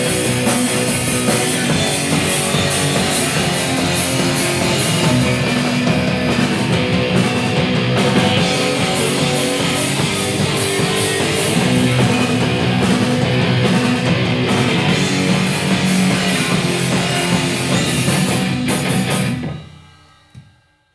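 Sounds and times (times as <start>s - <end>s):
loud rock music: 0.0s - 19.9s.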